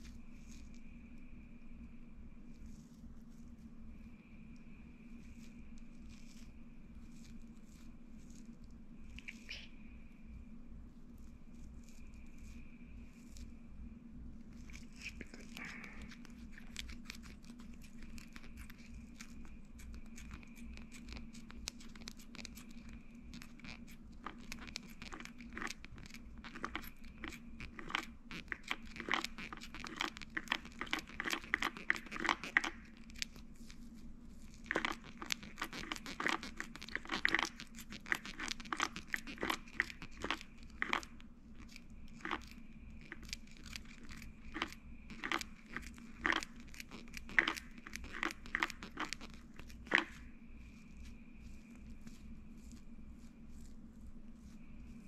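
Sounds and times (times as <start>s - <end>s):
small clicks and crackles: 0.0s - 13.6s, 14.4s - 55.0s
steady background hum: 0.0s - 55.0s.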